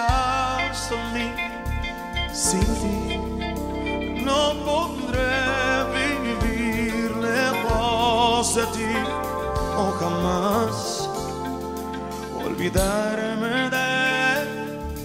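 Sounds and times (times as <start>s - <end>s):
band with accordion and bass: 0.0s - 13.2s
man singing ballad: 0.0s - 15.0s.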